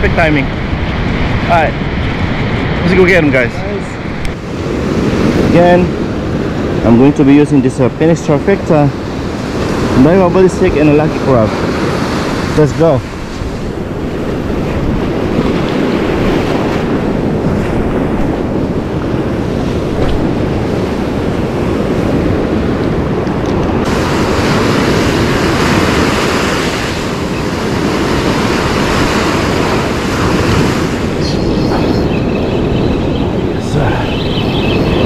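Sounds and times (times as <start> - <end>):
ocean surf breaking: 0.0 - 35.0
wind rumbling on microphone: 0.0 - 35.0.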